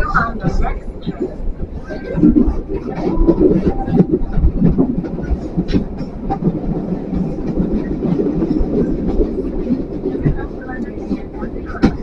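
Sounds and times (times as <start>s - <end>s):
clicks and knocks of train: 0.0s - 12.0s
train wheels rumbling on rails: 0.0s - 12.0s.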